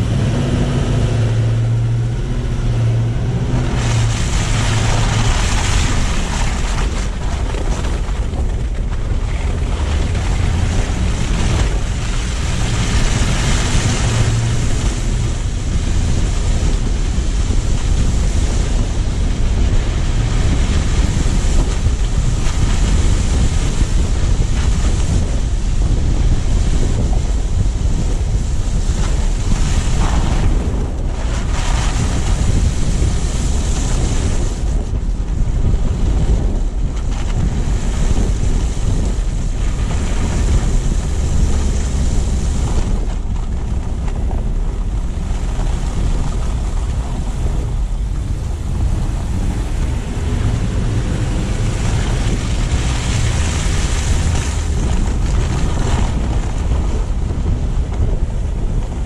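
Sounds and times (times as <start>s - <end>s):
tyre and road rumble: 0.0s - 59.0s
wind buffeting microphone: 0.0s - 59.0s.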